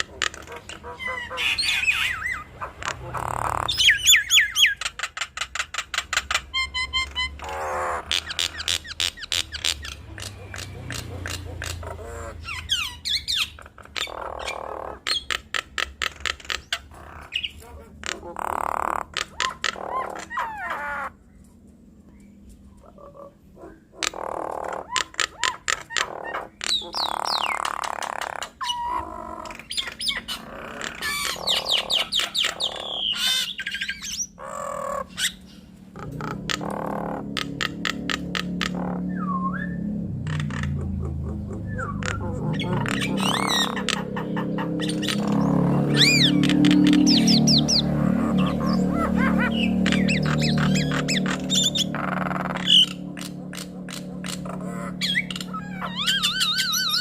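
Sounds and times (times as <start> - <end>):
starlings squawking and whistling: 0.0 - 21.4, 22.1 - 57.0
mynas calling: 0.0 - 21.5, 22.2 - 57.0.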